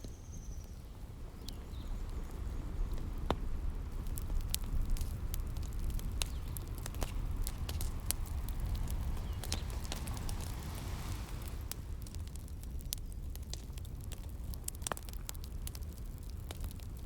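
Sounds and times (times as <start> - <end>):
low rumble of waves: 1.0 - 17.0
wood fire crackling and popping: 1.4 - 17.0.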